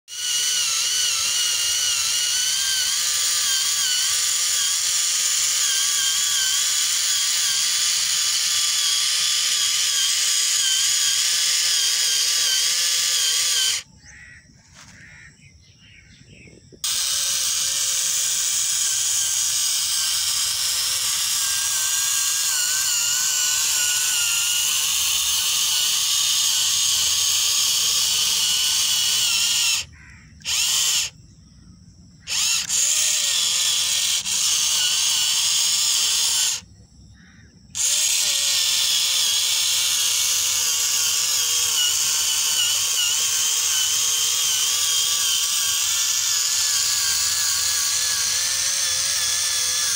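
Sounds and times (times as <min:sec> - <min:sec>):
small electric motor whining: 0:00.0 - 0:13.9, 0:16.8 - 0:31.2, 0:32.2 - 0:36.7, 0:37.8 - 0:49.9.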